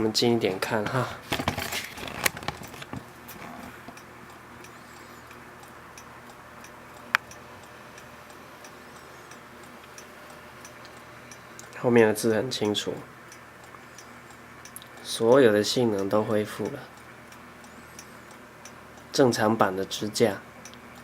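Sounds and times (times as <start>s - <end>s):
sharp tick: 2.5s - 11.8s, 12.6s - 19.2s, 20.0s - 21.0s.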